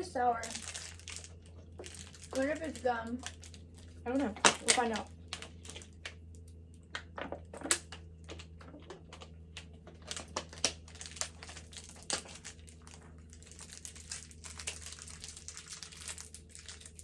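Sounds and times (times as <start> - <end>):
plastic packet crinkling and tearing: 0.2 - 6.4, 7.5 - 17.0.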